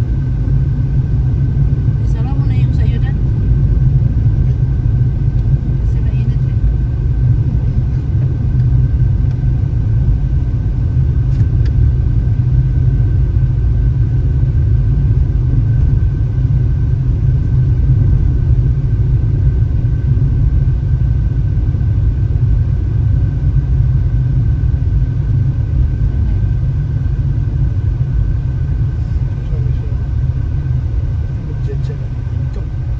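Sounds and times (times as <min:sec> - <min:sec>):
car engine and tyre rumble: 0:00.0 - 0:32.9.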